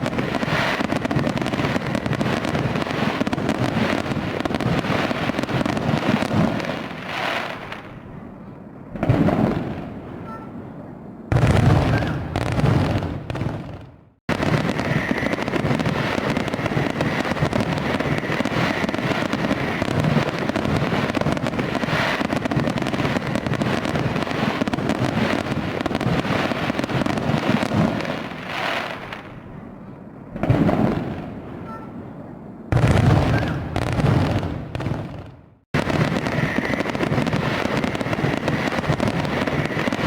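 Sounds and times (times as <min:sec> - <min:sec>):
fireworks booms and crackling: 0:00.0 - 0:40.0.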